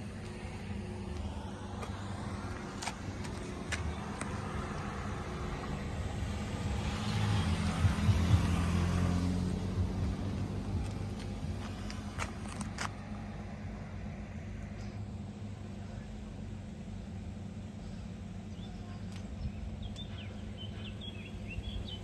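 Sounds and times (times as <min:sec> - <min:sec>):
vehicle engine hum passing: 0:00.0 - 0:22.0.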